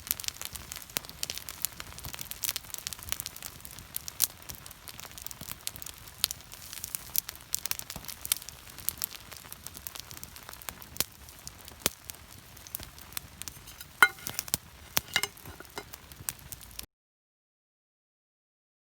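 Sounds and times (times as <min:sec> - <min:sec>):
campfire crackling and popping: 0:00.1 - 0:16.7.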